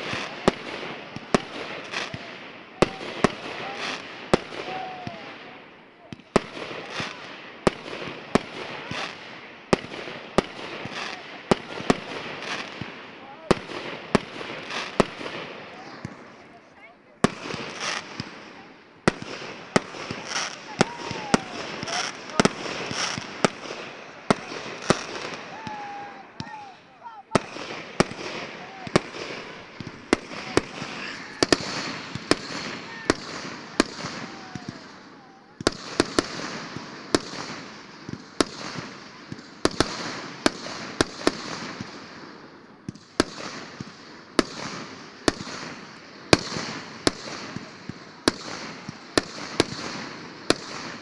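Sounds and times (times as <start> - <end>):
fireworks bangs: 0.0 - 51.0
fireworks crackling hiss: 0.0 - 51.0.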